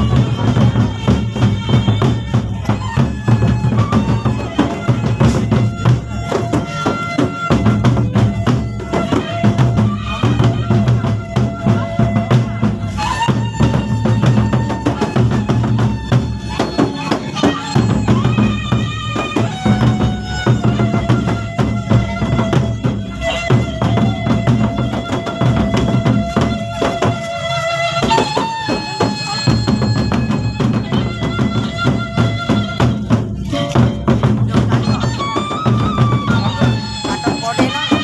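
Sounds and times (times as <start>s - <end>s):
cymbals clashing: 0.0s - 38.0s
drums beating fast rhythm: 0.0s - 38.0s
long held melody line: 0.0s - 38.0s.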